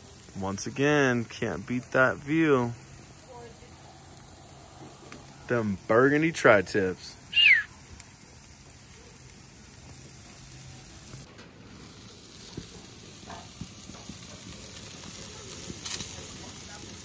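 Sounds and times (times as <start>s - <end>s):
steaks sizzling on a grill: 0.0s - 17.0s.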